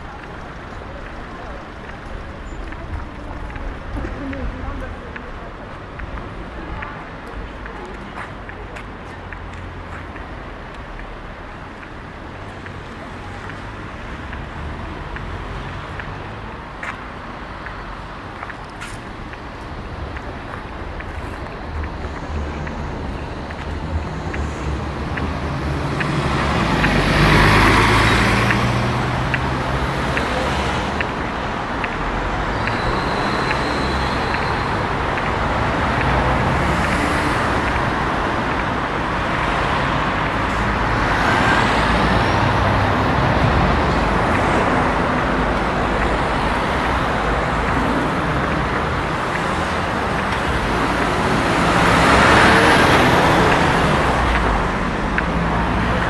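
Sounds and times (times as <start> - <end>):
cars and buses passing: 0.0 - 56.0.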